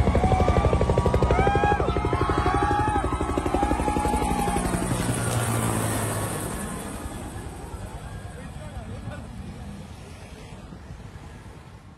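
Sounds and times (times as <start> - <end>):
helicopter rotor beating: 0.0 - 11.8.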